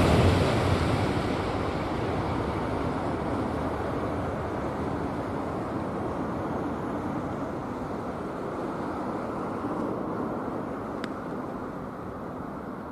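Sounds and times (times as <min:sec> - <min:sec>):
train rushing rumble: 0:00.0 - 0:12.9.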